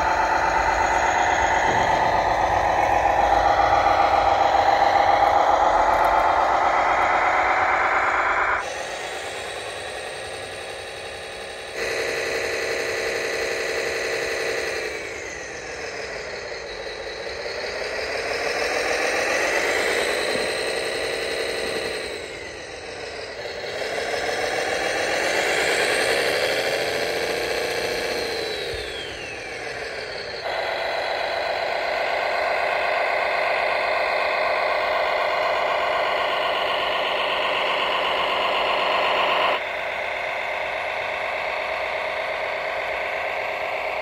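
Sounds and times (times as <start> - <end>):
model tractor motor running: 0.0 - 44.0.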